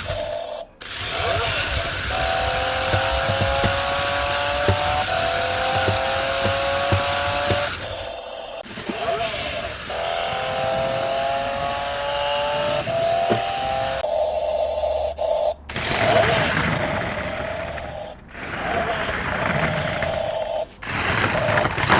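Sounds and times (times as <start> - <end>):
toy car clicking on floor: 0.0 - 14.1, 15.7 - 21.9
toy car electric motors whining: 0.0 - 14.1, 14.9 - 21.9.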